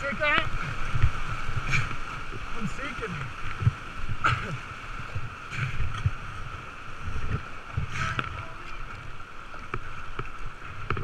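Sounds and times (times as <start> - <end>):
whitewater rushing and splashing: 0.0 - 11.0.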